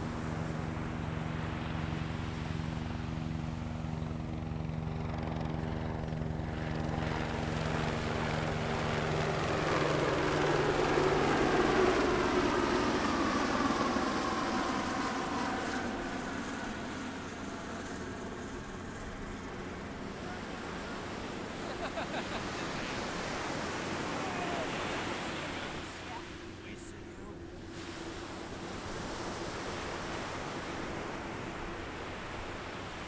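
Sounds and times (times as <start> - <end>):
low-flying aircraft drone: 0.0 - 33.0.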